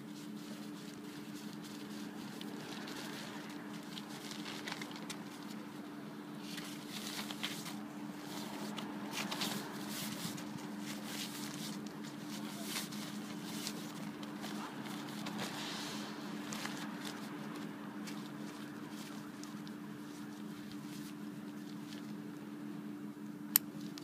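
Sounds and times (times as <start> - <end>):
drybag rustling and crinkling: 0.0 - 22.3
steady low hum: 0.0 - 24.0.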